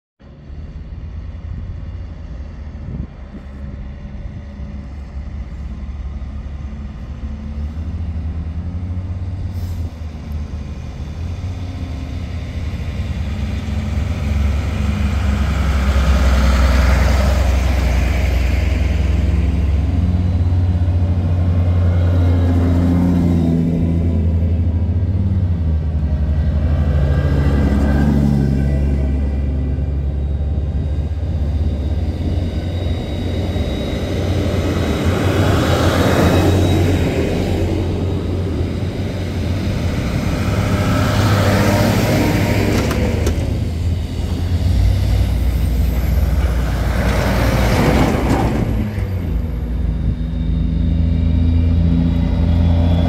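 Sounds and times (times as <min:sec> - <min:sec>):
vehicle engines driving past: 0:05.2 - 0:31.0, 0:31.7 - 0:53.0.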